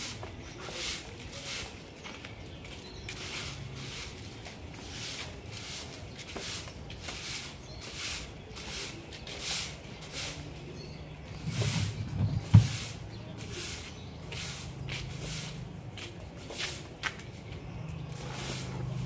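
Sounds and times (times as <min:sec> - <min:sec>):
broom sweeping brick paving: 0:00.0 - 0:19.0.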